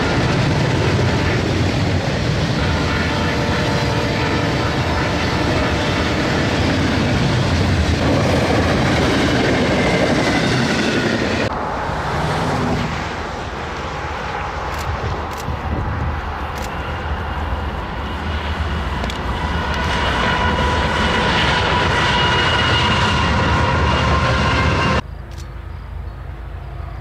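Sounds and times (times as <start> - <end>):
freight train passing: 0.0 - 27.0.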